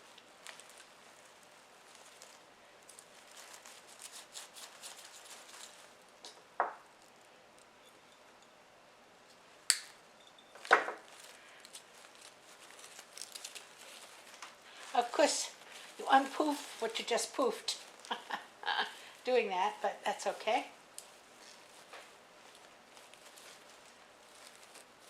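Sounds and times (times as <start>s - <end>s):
ribbon rustling and crinkling: 0.0s - 7.8s, 10.6s - 25.0s.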